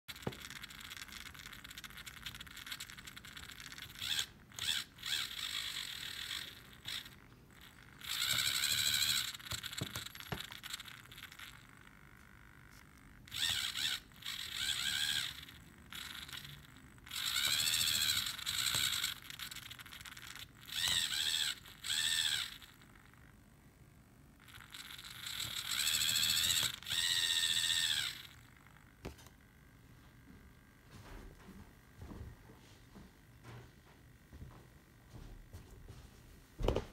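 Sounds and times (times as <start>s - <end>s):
mechanism whining: 0.0s - 32.5s.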